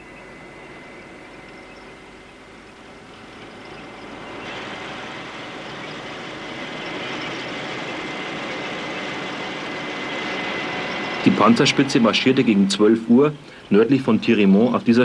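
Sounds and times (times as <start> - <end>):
engine and tyres rushing: 0.0 - 15.0.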